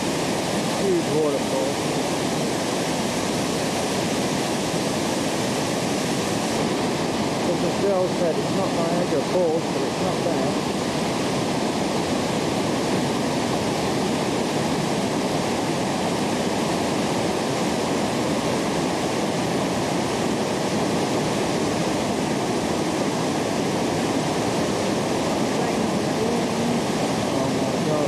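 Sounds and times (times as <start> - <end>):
water rushing over rocks: 0.0 - 28.0.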